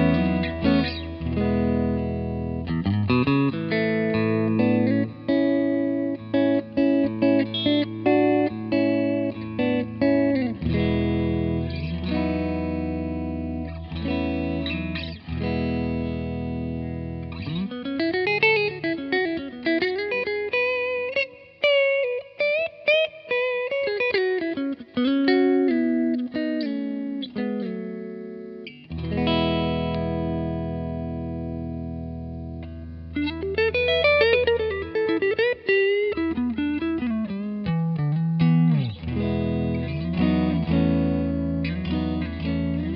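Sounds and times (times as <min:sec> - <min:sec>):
clean electric guitar: 0:00.0 - 0:42.9.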